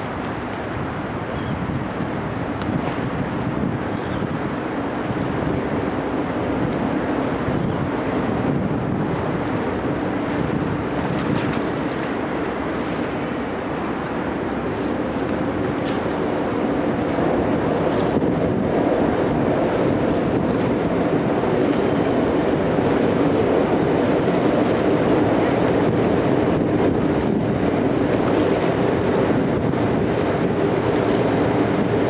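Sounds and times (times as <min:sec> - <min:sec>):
boat engine droning: 0:00.0 - 0:32.0
water rushing along hull: 0:00.0 - 0:32.0
wind buffeting microphone: 0:00.0 - 0:32.0.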